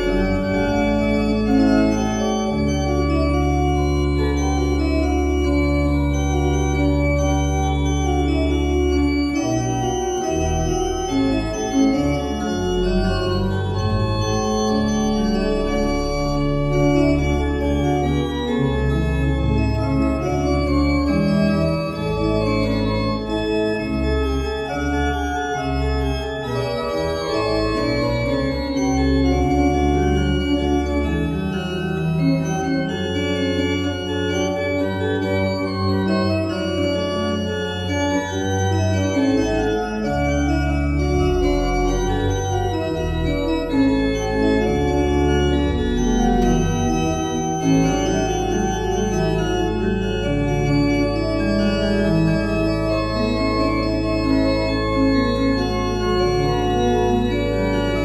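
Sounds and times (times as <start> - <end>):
deep organ bass line: 0.0 - 58.0
pipe organ chords: 0.0 - 58.0.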